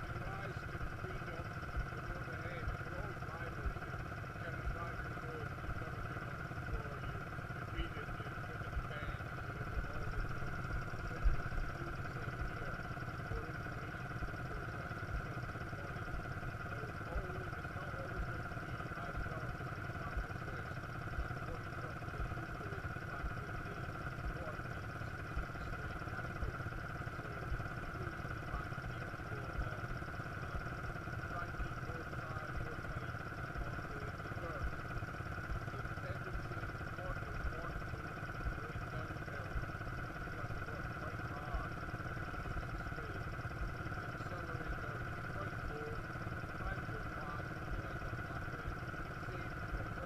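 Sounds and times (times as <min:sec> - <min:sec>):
quad bike engine running: 0:00.0 - 0:50.0.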